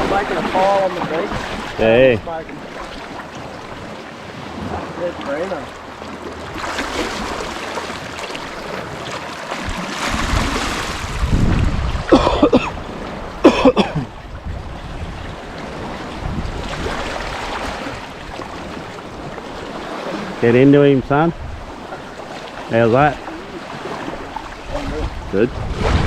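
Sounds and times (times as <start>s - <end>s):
waves washing on rocky shore: 0.0s - 26.0s
wind buffeting microphone: 0.0s - 26.0s.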